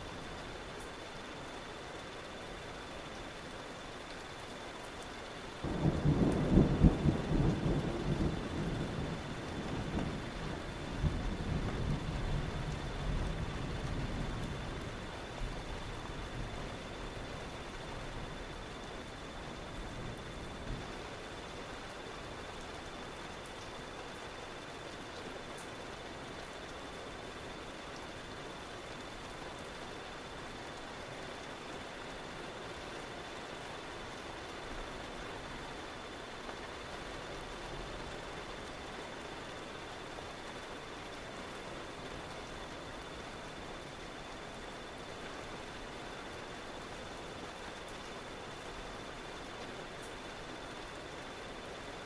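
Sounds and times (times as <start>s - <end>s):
rain hissing: 0.0s - 52.0s.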